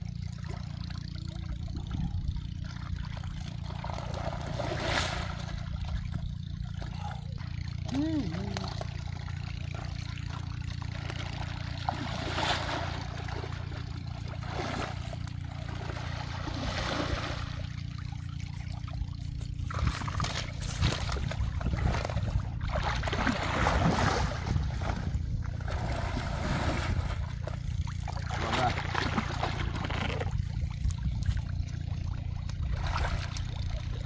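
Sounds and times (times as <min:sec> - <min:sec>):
steady low rumble: 0:00.0 - 0:34.0
water splashing and sloshing: 0:00.0 - 0:34.0.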